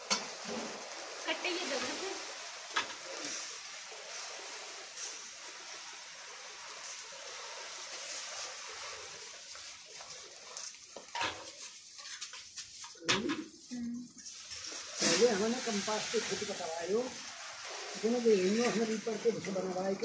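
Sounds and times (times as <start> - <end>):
grain pouring from sack: 0.0 - 10.9, 14.2 - 20.0.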